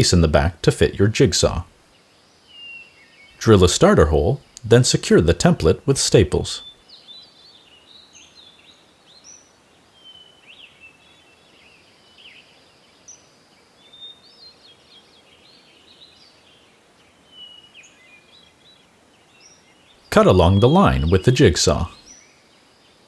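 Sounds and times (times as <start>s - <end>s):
birds chirping faintly: 0.0s - 23.0s
faint steady hiss: 0.0s - 23.0s.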